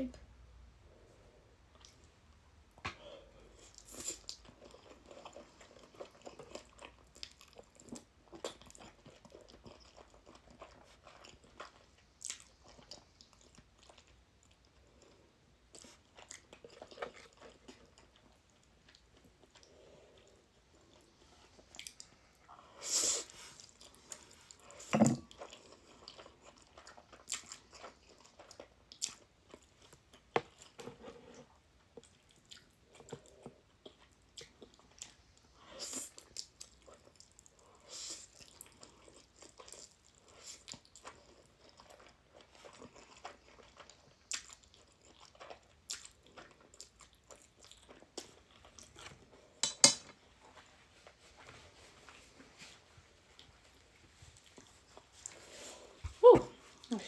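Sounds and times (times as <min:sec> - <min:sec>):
person chewing food: 0:01.0 - 0:57.0.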